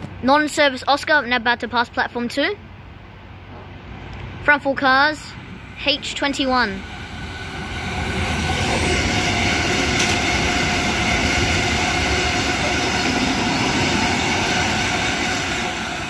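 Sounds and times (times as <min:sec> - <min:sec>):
train passing at speed: 0:02.6 - 0:16.0.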